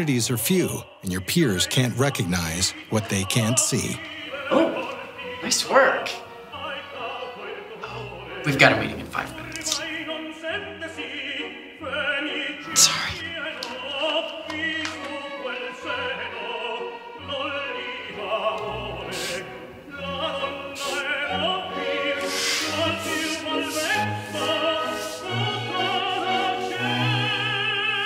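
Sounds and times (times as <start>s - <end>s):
operatic singing with orchestra: 0.0s - 28.0s.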